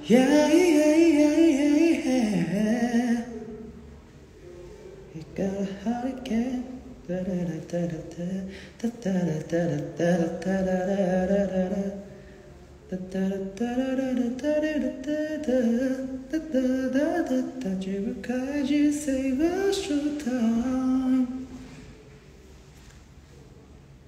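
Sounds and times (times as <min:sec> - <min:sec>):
man singing unaccompanied: 0:00.0 - 0:03.8, 0:05.1 - 0:12.1, 0:12.8 - 0:21.6.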